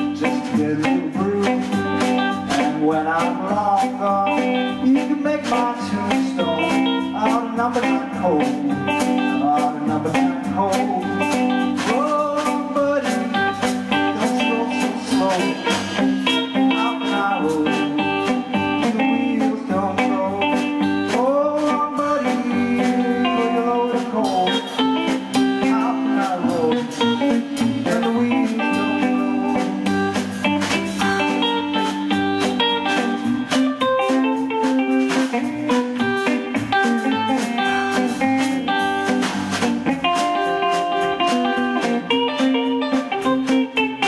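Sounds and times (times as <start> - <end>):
drum kit cymbal and snare: 0.0 - 44.0
electric guitar solo: 0.0 - 44.0.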